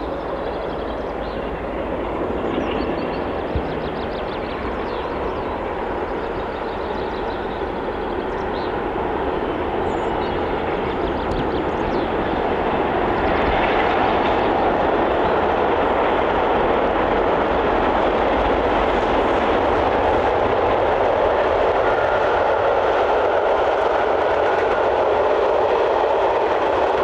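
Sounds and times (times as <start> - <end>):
diesel train rumbling: 0.0 - 27.0.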